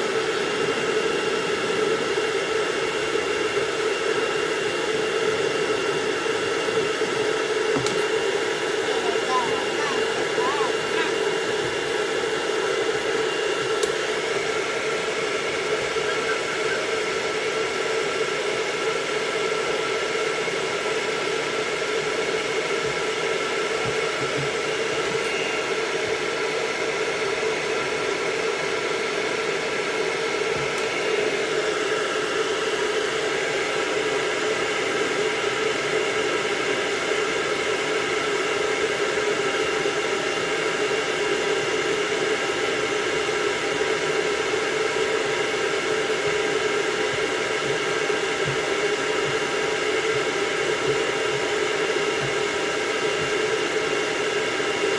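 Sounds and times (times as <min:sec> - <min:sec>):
motor whine: 0:00.0 - 0:54.9
pet dryer blowing air: 0:00.0 - 0:54.9.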